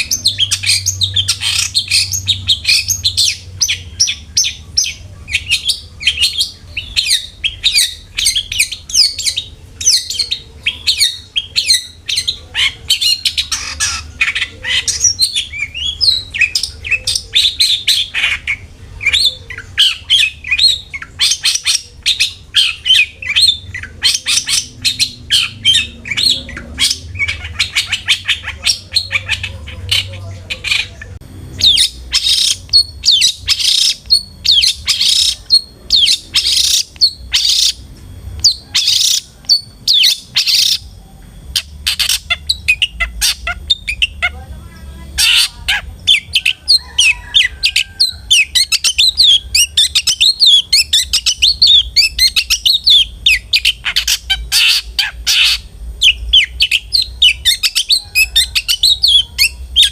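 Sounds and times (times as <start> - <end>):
faint steady low hum: 0.0 - 59.9
shrike singing: 0.0 - 59.9.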